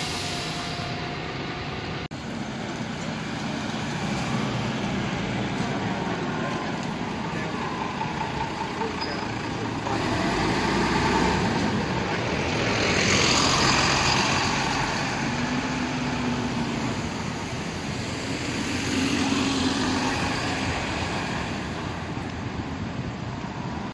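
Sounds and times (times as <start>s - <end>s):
bus engine drone: 0.0s - 23.9s
buses driving past: 0.0s - 23.9s.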